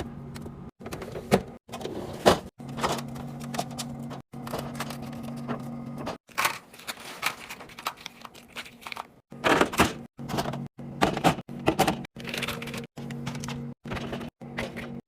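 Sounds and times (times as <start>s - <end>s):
plastic containers clattering: 0.8s - 15.0s.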